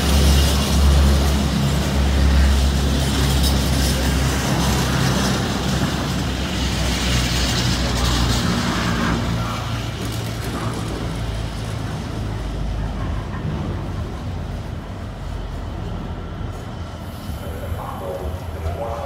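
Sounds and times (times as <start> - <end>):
diesel locomotive engine rumble: 0.0 - 19.0
freight train rolling past: 0.0 - 19.0.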